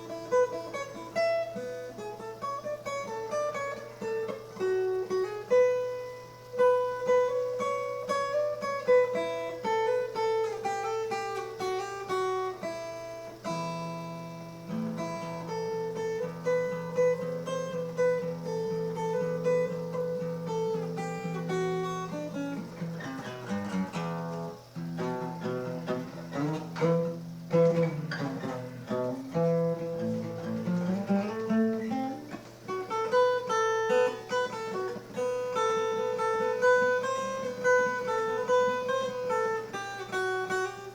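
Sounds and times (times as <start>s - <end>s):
acoustic guitar picking and strumming: 0.0s - 40.9s.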